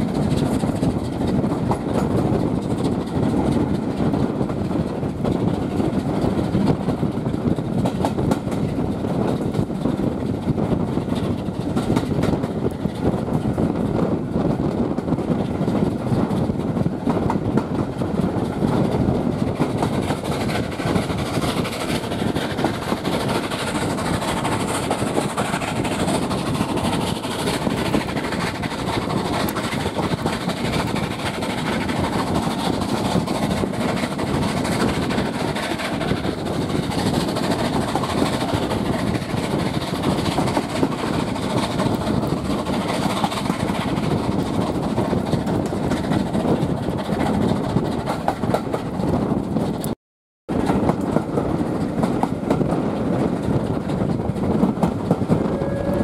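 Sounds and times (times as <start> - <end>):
train wheels rumbling on rails: 0.0 - 56.0
wind on microphone: 0.0 - 56.0.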